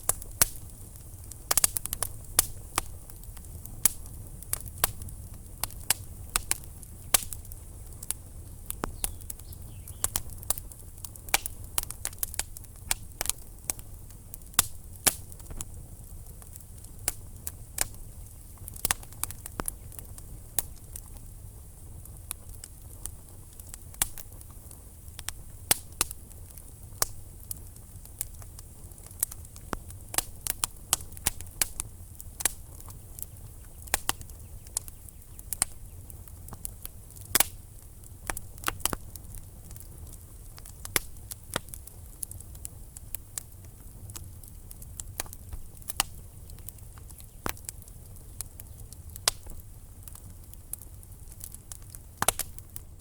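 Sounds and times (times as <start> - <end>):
logs crackling and popping: 0.0 - 53.0
low rumble of flame: 0.0 - 53.0.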